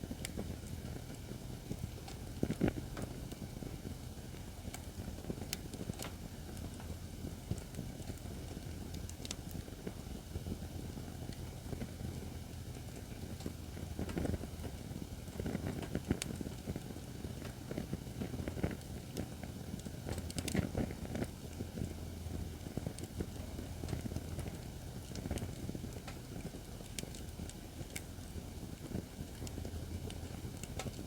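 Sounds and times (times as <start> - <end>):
firewood crackling and popping: 0.0 - 31.0.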